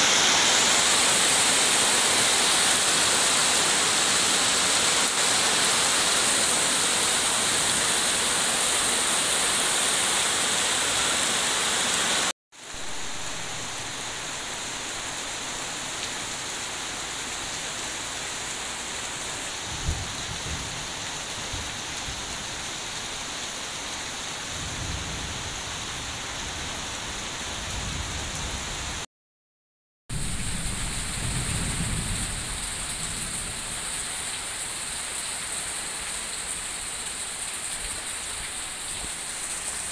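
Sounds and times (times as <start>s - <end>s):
heavy rain pouring: 0.0s - 23.3s, 30.1s - 39.9s.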